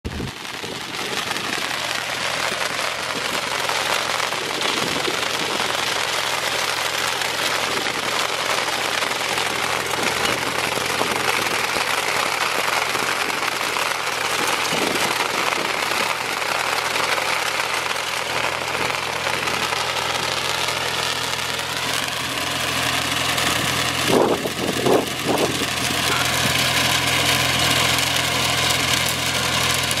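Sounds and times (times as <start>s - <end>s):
tillage implements working soil: 0.0s - 30.0s
tractor diesel engine running: 0.0s - 30.0s.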